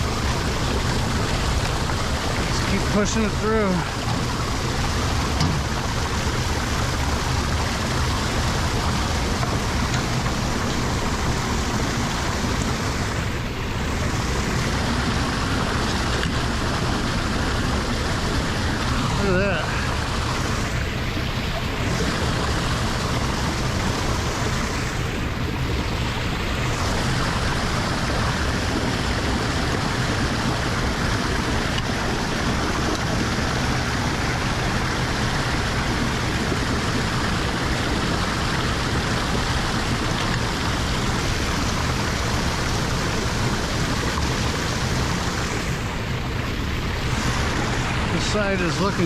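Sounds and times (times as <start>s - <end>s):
water rushing down a drain: 0.0s - 49.0s.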